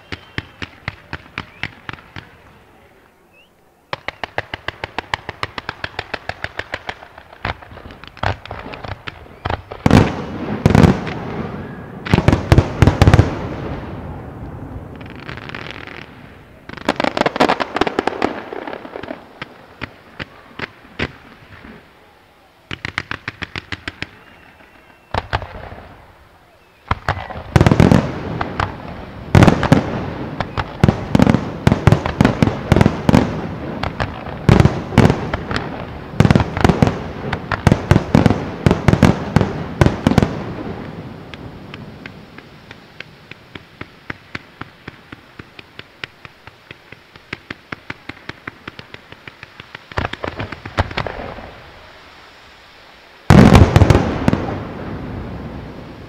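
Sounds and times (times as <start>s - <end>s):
fireworks bursting with loud bangs: 0.0s - 56.0s
fireworks crackling: 0.0s - 56.0s.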